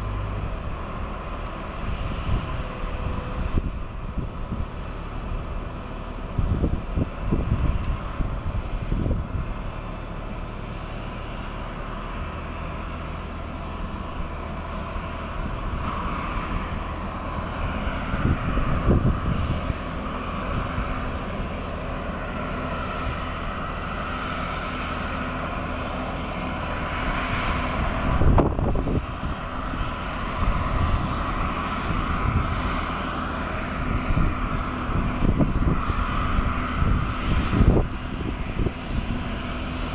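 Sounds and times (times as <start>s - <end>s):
wind gusts on microphone: 0.0s - 11.2s, 12.6s - 39.9s
airliner hum and whine: 0.0s - 39.9s.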